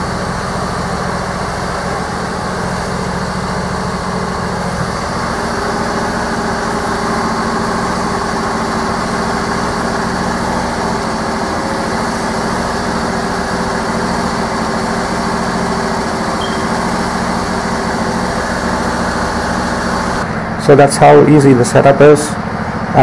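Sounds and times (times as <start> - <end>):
lawn tractor engine running: 0.0 - 21.0.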